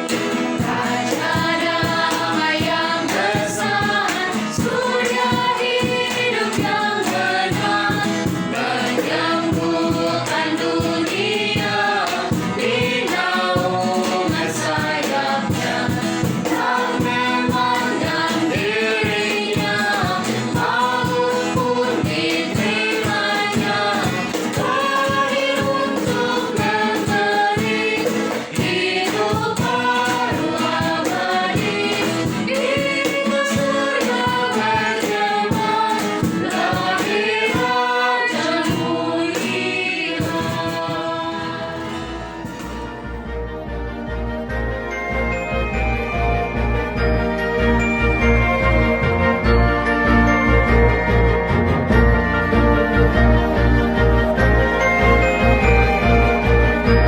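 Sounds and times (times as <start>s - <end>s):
choir singing a hymn: 0.0s - 44.4s, 45.3s - 57.0s
musical accompaniment: 0.0s - 57.0s.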